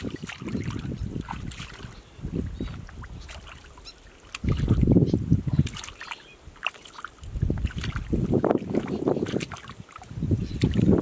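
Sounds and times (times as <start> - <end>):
hands squelching in mud: 0.0 - 11.0
wind rumble on microphone: 0.0 - 11.0.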